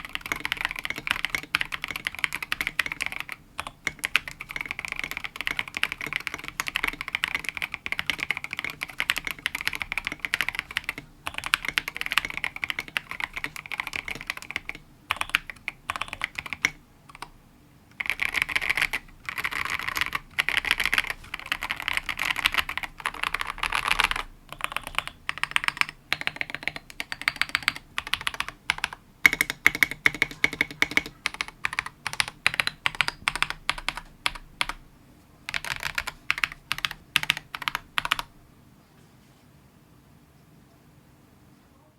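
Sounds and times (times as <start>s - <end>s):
fast mechanical keyboard typing: 0.0s - 34.9s, 35.5s - 38.4s.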